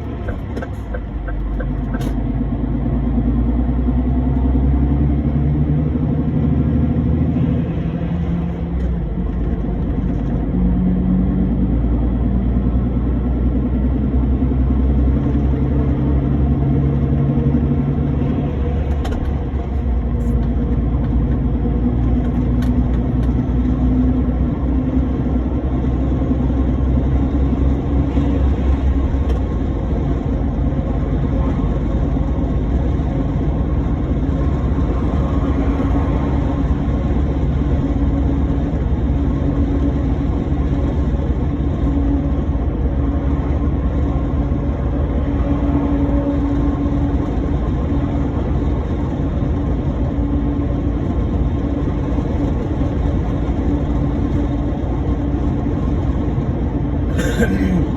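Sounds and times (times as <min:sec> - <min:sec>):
low road rumble: 0:00.0 - 0:57.9
truck engine drone: 0:00.0 - 0:57.9.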